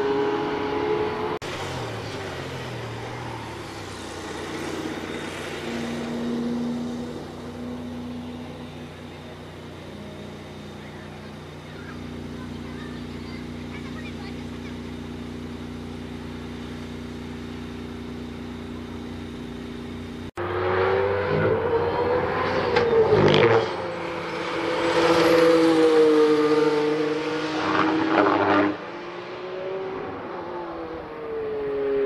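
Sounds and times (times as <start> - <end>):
car engine humming at standstill: 0.0 - 32.0
car engine running loud on track: 0.0 - 32.0.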